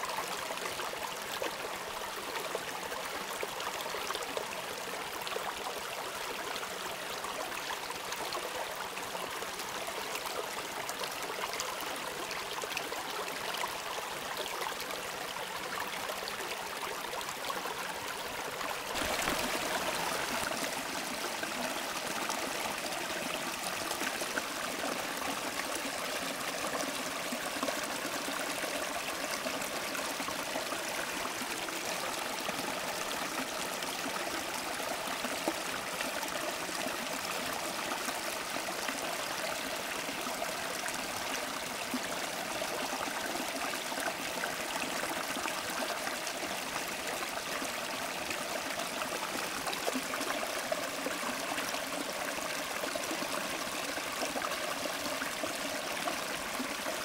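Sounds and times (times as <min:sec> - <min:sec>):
creek running over stones: 0:00.0 - 0:57.0
small water cascade: 0:00.0 - 0:57.0.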